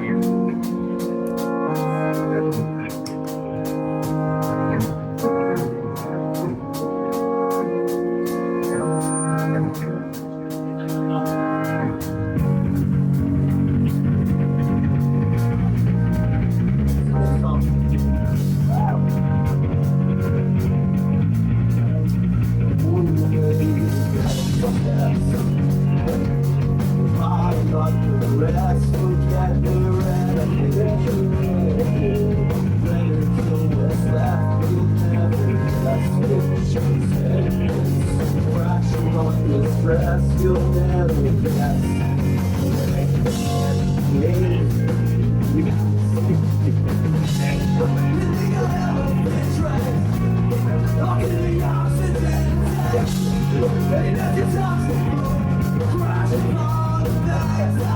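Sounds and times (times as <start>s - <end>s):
bass guitar: 0.0s - 57.9s
drum kit: 0.0s - 57.9s
electric guitars: 0.0s - 57.9s.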